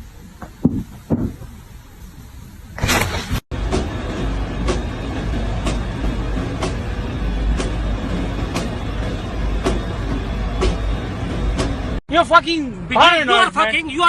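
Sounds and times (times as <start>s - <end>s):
low vehicle rumble: 0.0s - 12.1s.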